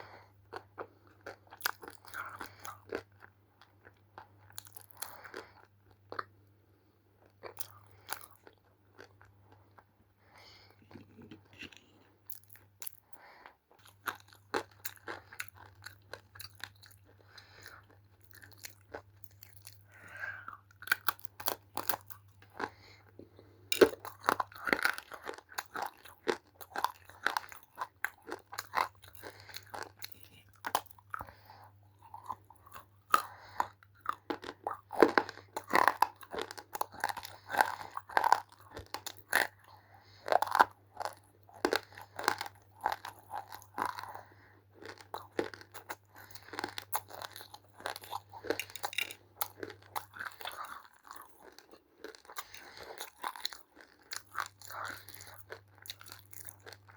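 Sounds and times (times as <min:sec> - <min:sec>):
crunching and chewing: 0:00.0 - 0:06.4, 0:07.2 - 0:09.9, 0:10.5 - 0:56.9.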